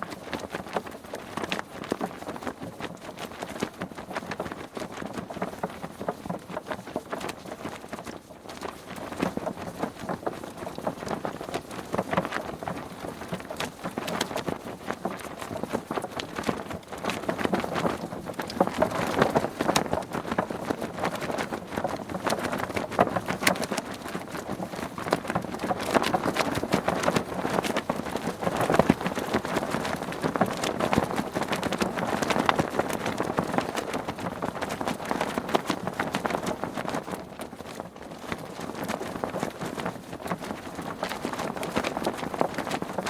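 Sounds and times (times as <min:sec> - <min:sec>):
sail flapping in the wind: 0:00.0 - 0:43.0.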